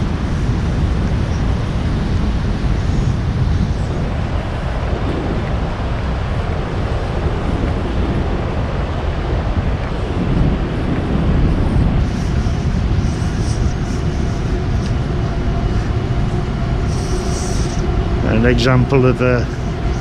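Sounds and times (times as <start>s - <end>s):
station concourse background noise: 0.0s - 20.0s.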